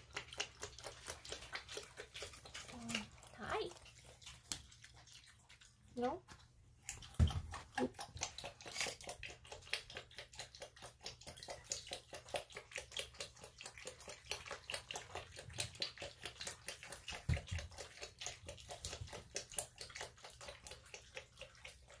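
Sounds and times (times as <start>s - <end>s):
animal lapping water: 0.0s - 22.0s.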